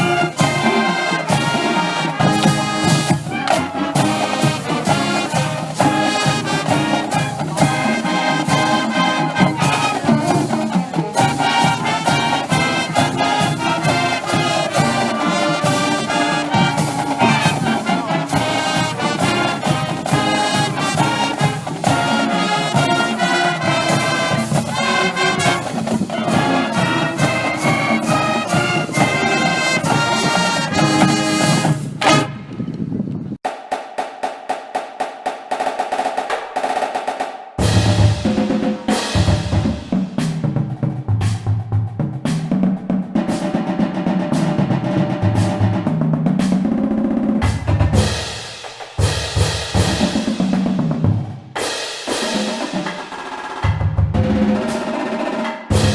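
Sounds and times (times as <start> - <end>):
snare drum beat: 0.0 - 32.3, 33.4 - 55.9
brass band playing lively tune: 0.0 - 32.5, 35.2 - 55.9.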